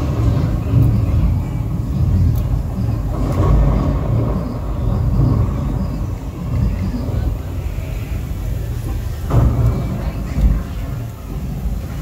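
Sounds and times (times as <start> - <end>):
deep thunder rumble from loudspeakers: 0.0 - 12.0.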